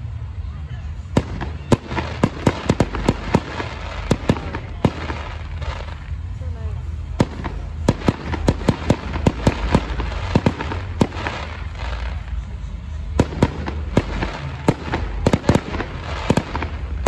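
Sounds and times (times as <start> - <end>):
crackling hiss: 0.0 - 17.0
fireworks bangs and cracks: 1.0 - 17.0.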